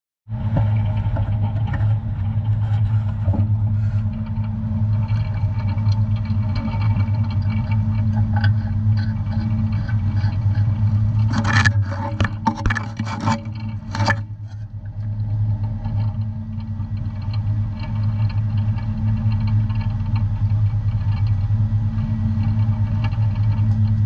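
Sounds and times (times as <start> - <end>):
boat engine droning: 0.3 - 24.0.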